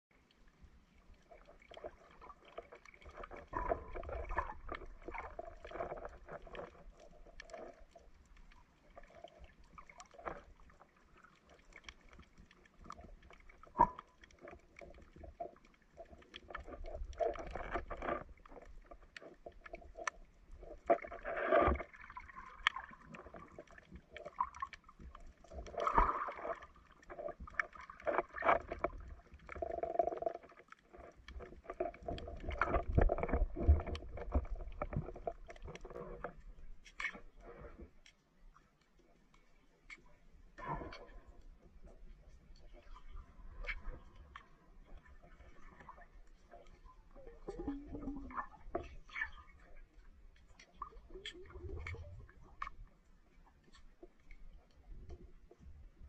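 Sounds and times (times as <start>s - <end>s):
underwater sloshing and gurgling: 0.1s - 56.0s.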